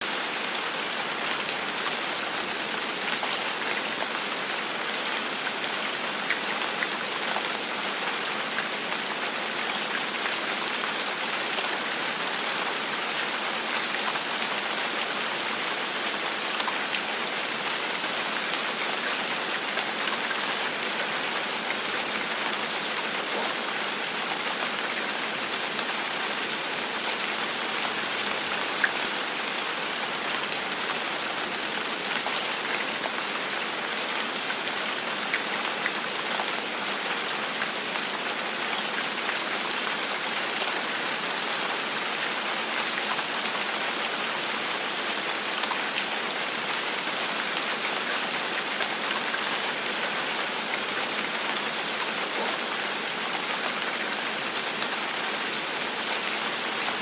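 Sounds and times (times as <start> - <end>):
gentle rain on a surface: 0.0 - 57.0.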